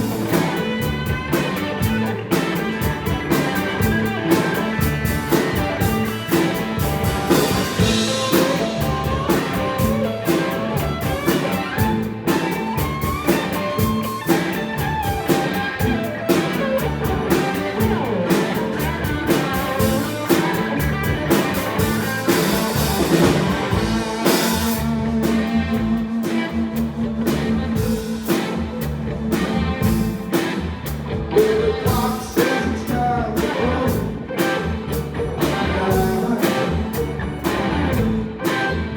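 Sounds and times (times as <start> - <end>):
blues-rock band playing: 0.0 - 38.9.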